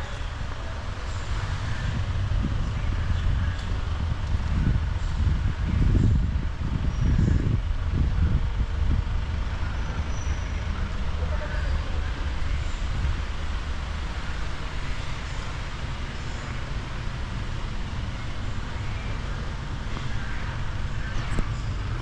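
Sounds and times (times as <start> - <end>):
low rumbles: 0.0 - 22.0
vehicle engine running: 0.0 - 22.0.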